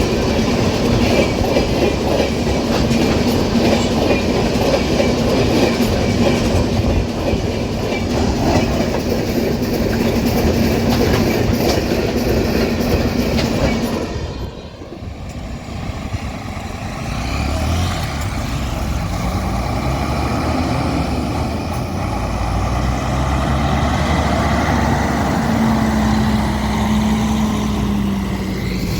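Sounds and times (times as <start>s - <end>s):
wagons clickety-clack on rails: 0.0s - 28.9s.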